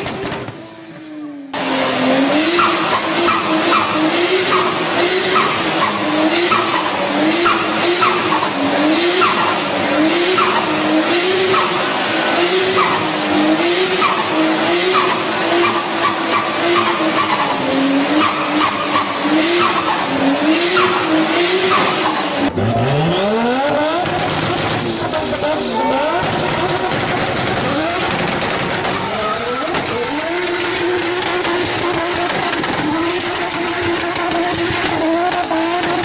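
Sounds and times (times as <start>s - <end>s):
car engine revving: 0.0s - 36.0s
car tyres squealing: 0.0s - 36.0s.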